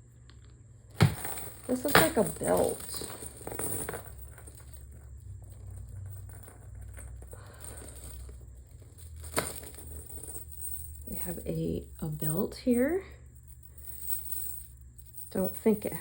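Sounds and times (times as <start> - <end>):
low steady hum: 0.0 - 16.0
jewelry clinking: 0.9 - 16.0.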